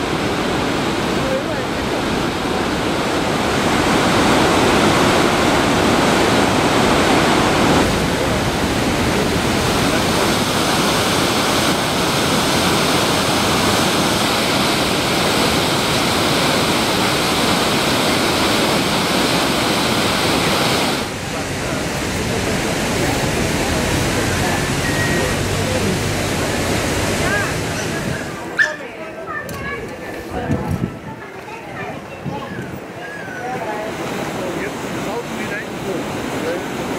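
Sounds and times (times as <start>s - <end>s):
waterfall rushing: 0.0s - 30.0s, 31.0s - 36.9s.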